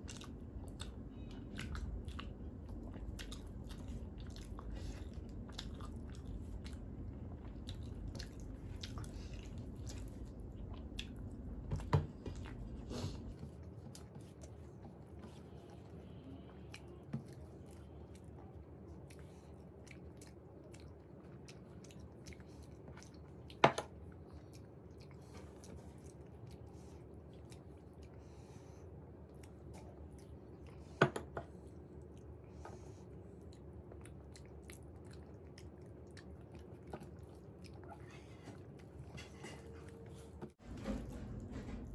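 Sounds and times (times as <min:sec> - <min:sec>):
close chewing: 0:00.0 - 0:41.9
soft wet mixing sounds: 0:00.0 - 0:41.9.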